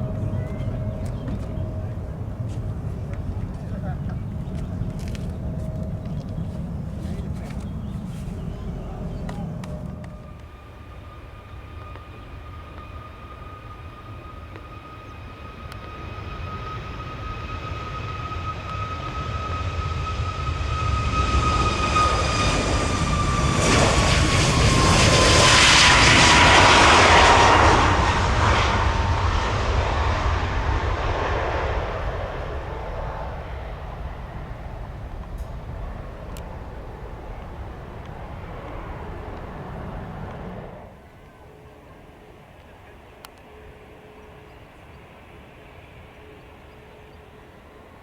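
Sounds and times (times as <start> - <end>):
jet airliner taking off: 0.0 - 48.0
jet fan whine: 0.0 - 48.0.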